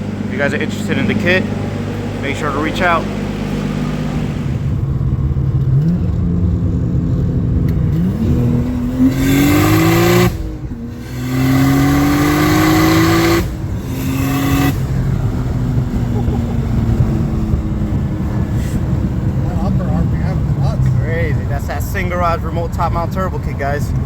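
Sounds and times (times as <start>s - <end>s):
turbocharged engine accelerating: 0.0s - 24.0s.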